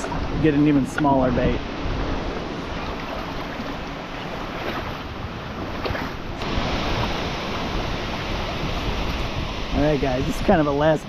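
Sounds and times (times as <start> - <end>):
creek water flowing: 0.0 - 11.0
wind buffeting microphone: 0.0 - 11.0.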